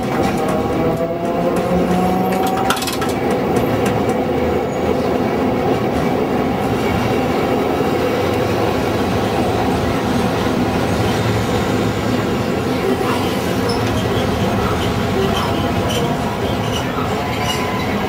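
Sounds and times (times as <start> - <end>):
tram wheels rumbling on track: 0.0 - 18.0.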